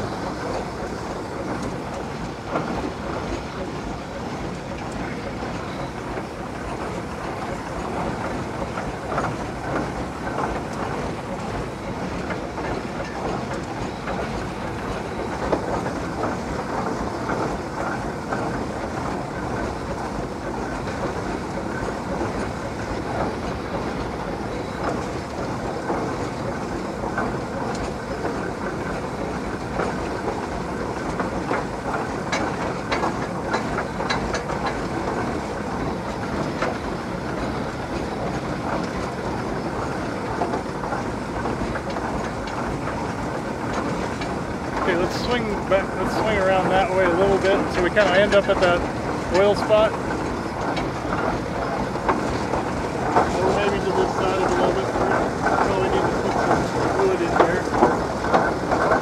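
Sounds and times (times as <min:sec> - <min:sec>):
steam traction engine clatter: 0:00.0 - 0:59.0.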